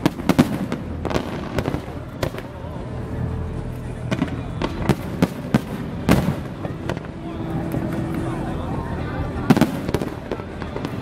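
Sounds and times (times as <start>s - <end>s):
fireworks bangs: 0.0s - 8.3s, 9.3s - 11.0s.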